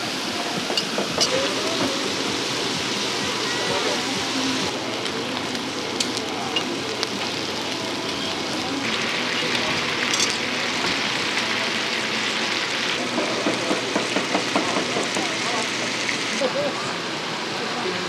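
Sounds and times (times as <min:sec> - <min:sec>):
patties sizzling on griddle: 0:00.0 - 0:16.9.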